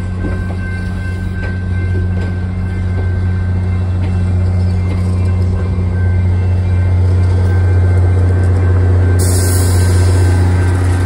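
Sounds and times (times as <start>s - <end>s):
train coaches rolling past: 0.0s - 11.0s.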